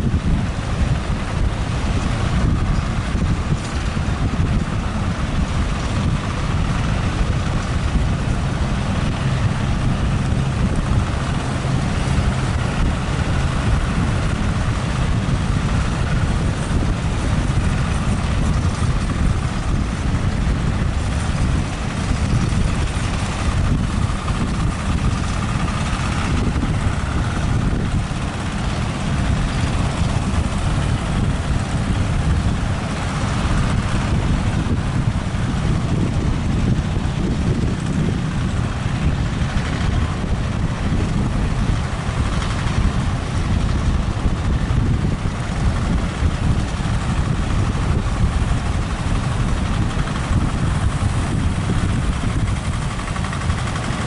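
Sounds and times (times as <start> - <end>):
boat engines running: 0.0 - 54.0
heavy surf breaking: 0.0 - 54.0
wind buffeting microphone: 0.0 - 54.0.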